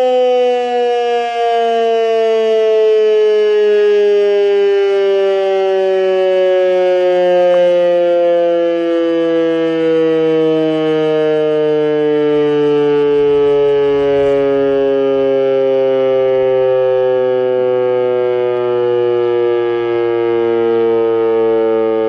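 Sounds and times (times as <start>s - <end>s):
warning siren falling in pitch: 0.0s - 22.0s.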